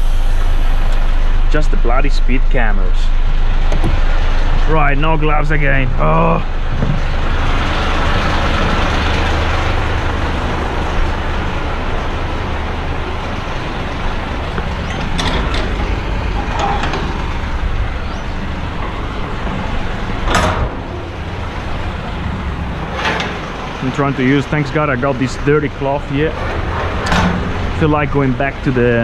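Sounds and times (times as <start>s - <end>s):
road noise: 0.0s - 29.0s
truck engine hum: 0.0s - 29.0s.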